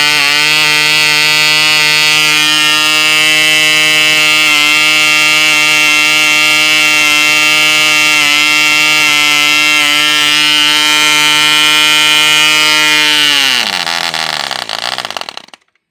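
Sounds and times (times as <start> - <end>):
model glow engine buzzing: 0.0 - 15.8
engine sputtering out: 0.0 - 15.9.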